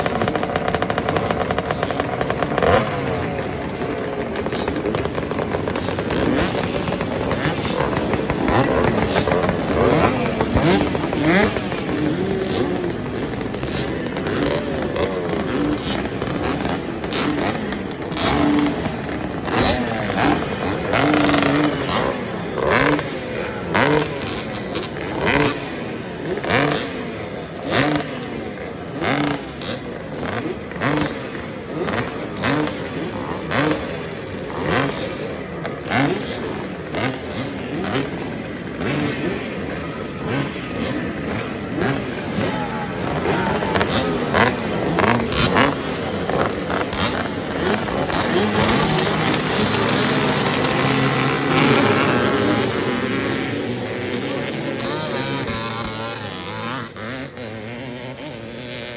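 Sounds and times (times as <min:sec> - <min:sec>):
motocross motorcycles revving: 0:00.0 - 0:58.9.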